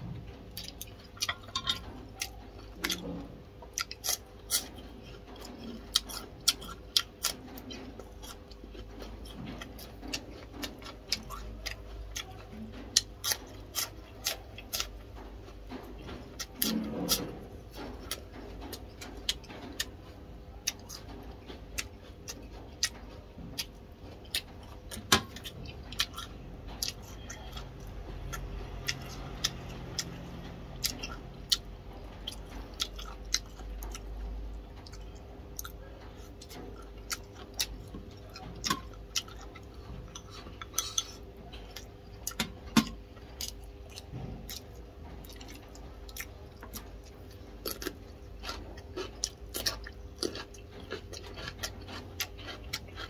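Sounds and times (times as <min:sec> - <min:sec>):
close-miked chewing and mouth clicks: 0:00.3 - 0:53.0.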